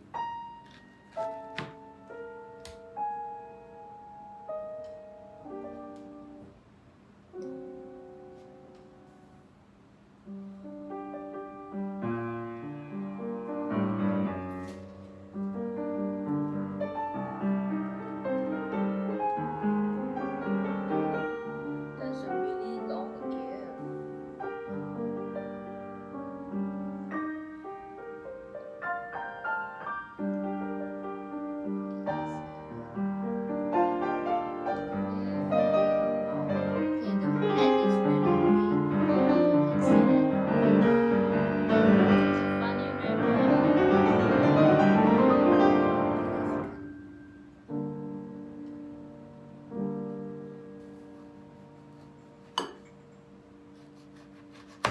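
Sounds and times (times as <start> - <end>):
piano music: 0.0 - 6.6, 7.3 - 9.5, 10.2 - 54.9.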